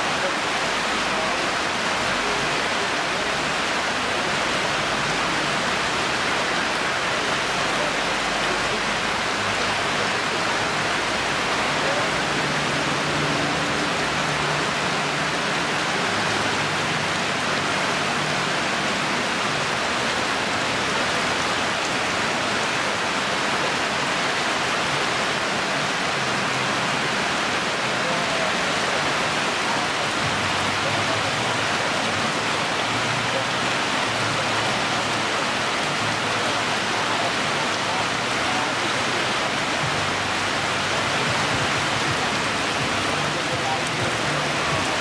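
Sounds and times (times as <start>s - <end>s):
heavy rain on pavement: 0.0s - 45.0s.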